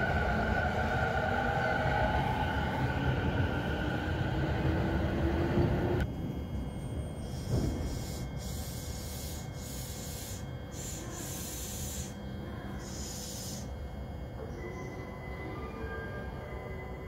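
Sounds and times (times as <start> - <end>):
electric trains rumbling: 0.0 - 17.0.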